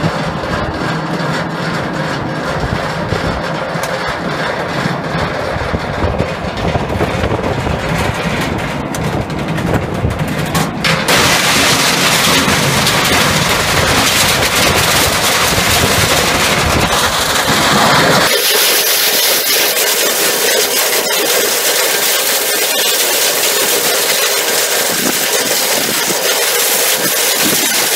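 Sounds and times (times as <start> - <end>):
hammer mill rumbling: 0.0 - 27.9
plastic and metal crashing: 0.0 - 27.9.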